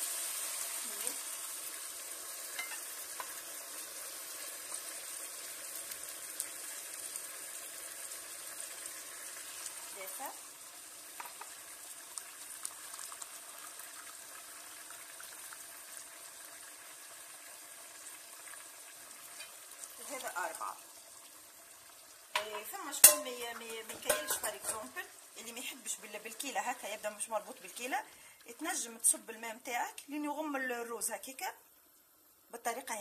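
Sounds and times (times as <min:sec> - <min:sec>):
water sizzling in hot pan: 0:00.0 - 0:33.0.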